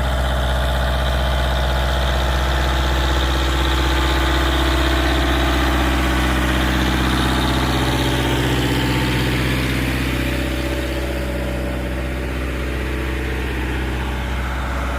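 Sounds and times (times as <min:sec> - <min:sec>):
tractor diesel engine under load: 0:00.0 - 0:14.9.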